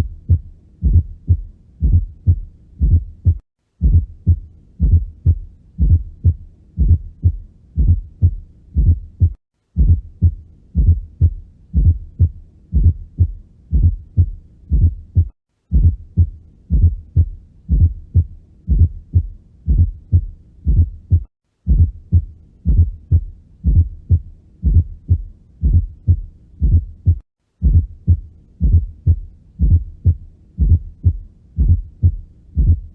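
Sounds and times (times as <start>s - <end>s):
galloping heartbeat thuds: 0.0s - 32.9s.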